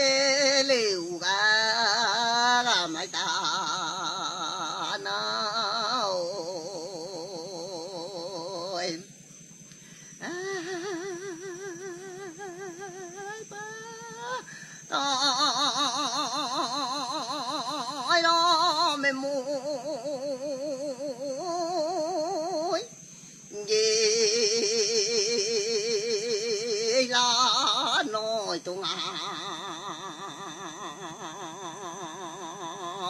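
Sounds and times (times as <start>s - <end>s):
person chanting with vibrato: 0.0s - 9.2s, 10.2s - 33.0s.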